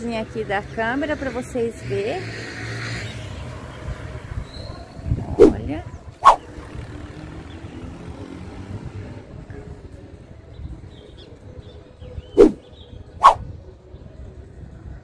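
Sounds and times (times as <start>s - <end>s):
road traffic rumble: 0.0s - 13.4s.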